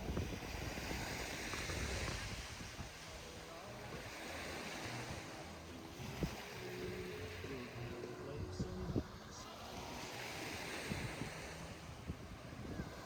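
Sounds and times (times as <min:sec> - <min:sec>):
surf washing onto sandy beach: 0:00.0 - 0:13.0
wind rumbling on microphone: 0:00.0 - 0:13.0.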